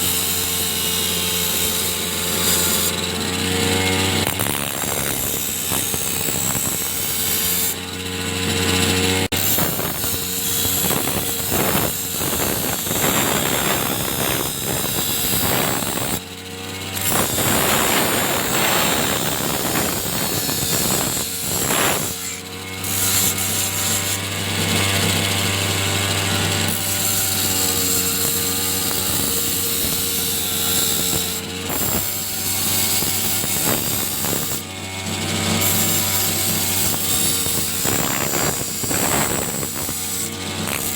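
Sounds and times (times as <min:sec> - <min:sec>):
blade grinding: 0:00.0 - 0:40.9
motor running: 0:00.0 - 0:40.9.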